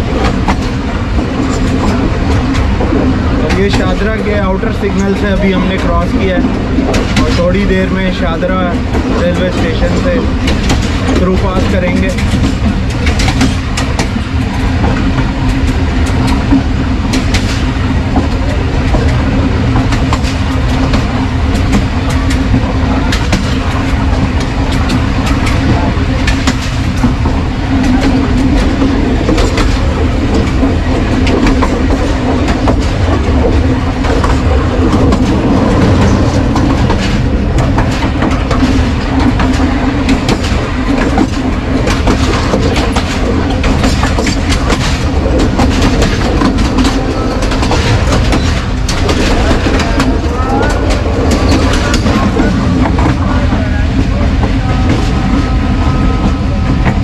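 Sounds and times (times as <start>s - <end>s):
train rumbling on track: 0.0s - 57.0s
wheels clattering over rail joints: 0.0s - 57.0s.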